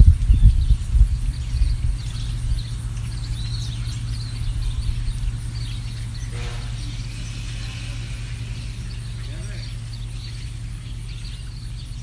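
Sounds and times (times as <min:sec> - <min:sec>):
songbirds chirping: 0:00.0 - 0:12.0
steady low rumble: 0:00.0 - 0:12.0.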